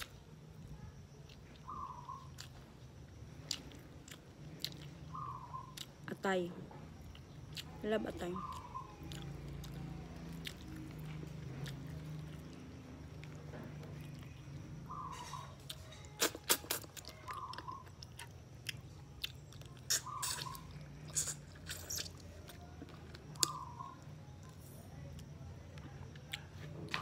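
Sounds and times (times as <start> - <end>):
chewing with wet lip-smacks: 0.0 - 6.2, 7.0 - 14.9, 15.6 - 27.0.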